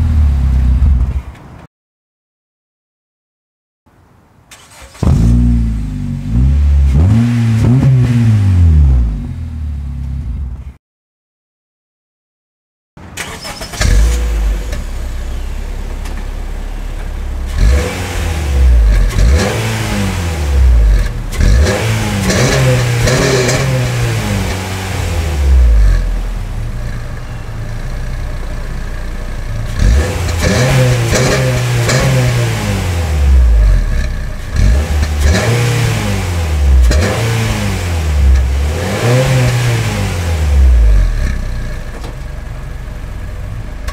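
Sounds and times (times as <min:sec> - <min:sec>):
car exhaust idling and revving: 0:00.0 - 0:01.2, 0:05.0 - 0:10.8, 0:13.9 - 0:43.9.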